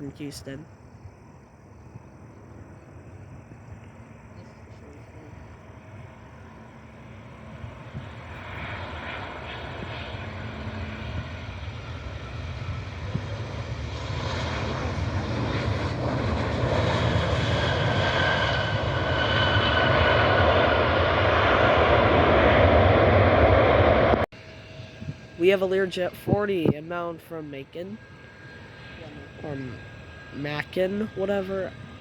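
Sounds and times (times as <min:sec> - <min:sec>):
jet engines rumbling: 0:00.0 - 0:32.0
thin jet engine whine: 0:00.0 - 0:32.0.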